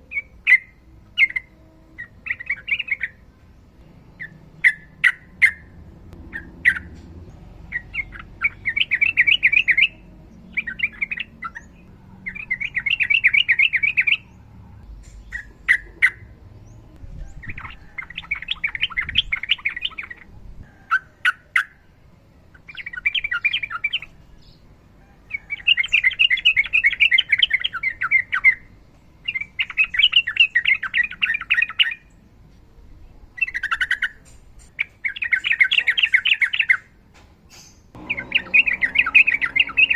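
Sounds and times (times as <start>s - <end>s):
bird singing rolling phrases: 0.0s - 39.9s.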